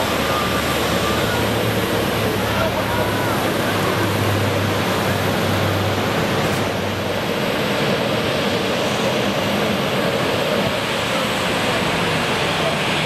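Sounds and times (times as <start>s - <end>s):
turboprop airliner taking off: 0.0s - 13.0s.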